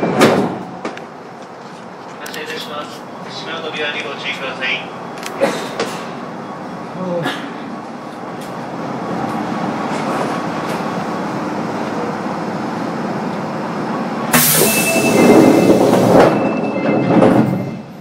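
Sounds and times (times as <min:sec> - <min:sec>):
subway train rumble: 0:00.0 - 0:18.0.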